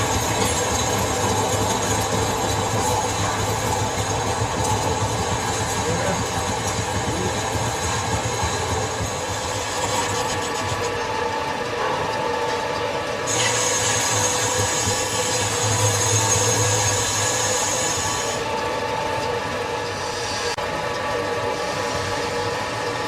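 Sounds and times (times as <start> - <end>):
metal lathe running: 0.0 - 23.0.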